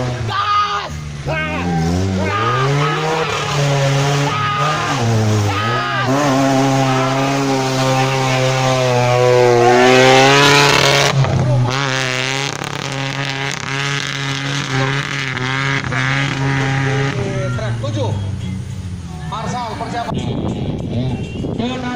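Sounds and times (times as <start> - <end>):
off-road vehicle engine revving: 0.0 - 21.9.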